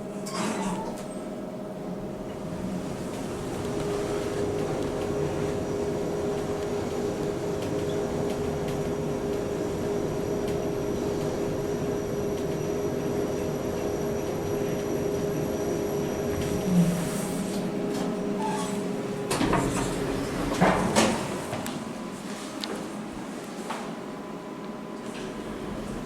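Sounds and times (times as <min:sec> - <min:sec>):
lift running hum: 0:00.0 - 0:26.0.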